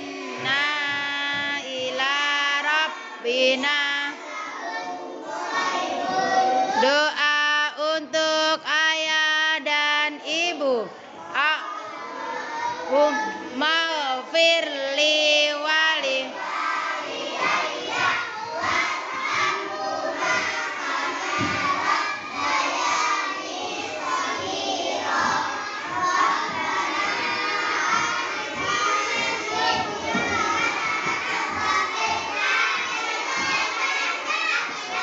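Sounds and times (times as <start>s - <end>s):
children chanting in unison: 0.0s - 7.0s, 11.0s - 35.0s.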